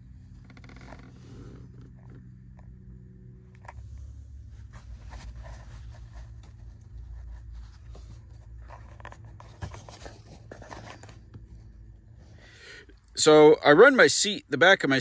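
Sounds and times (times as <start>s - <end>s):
steady low rumble: 0.0s - 13.8s.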